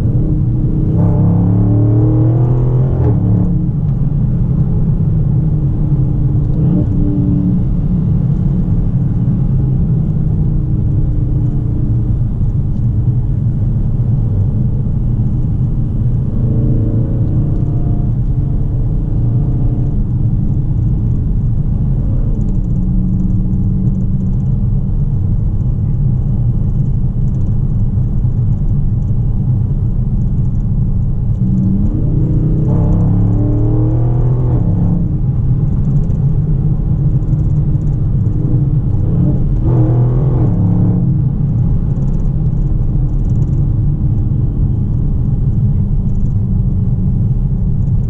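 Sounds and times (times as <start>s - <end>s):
car engine droning and revving: 0.0s - 48.0s.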